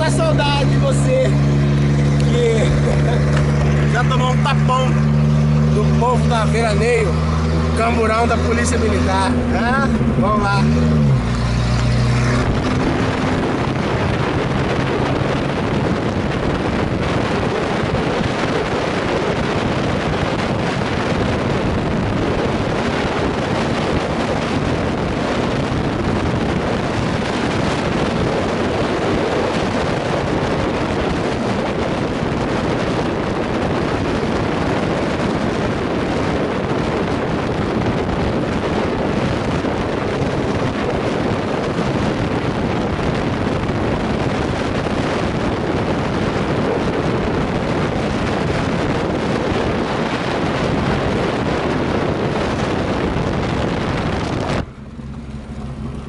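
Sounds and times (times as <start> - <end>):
road and tyre noise: 0.0 - 56.0
wind rush on microphone: 0.0 - 56.0.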